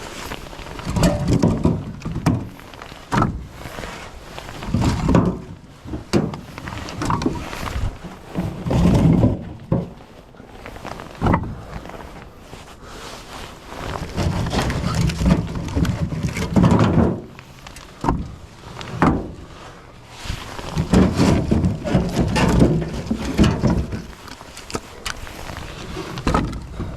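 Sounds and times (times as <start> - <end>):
firewood knocking and thudding: 0.6 - 10.1, 11.2 - 11.6, 14.1 - 19.5, 20.3 - 26.9.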